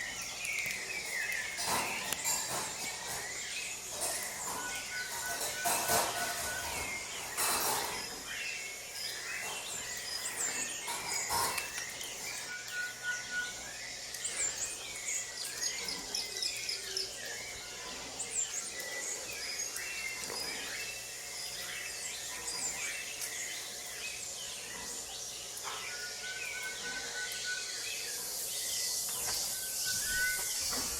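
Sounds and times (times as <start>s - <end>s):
birds chirping and whistling: 0.0s - 30.9s.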